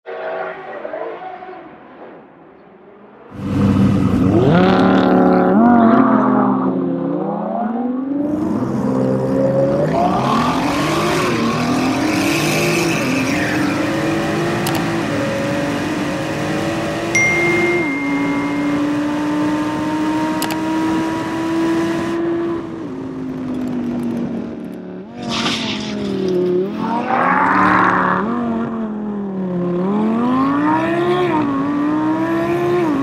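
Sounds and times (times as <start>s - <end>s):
loud car engine accelerating: 3.3s - 33.0s.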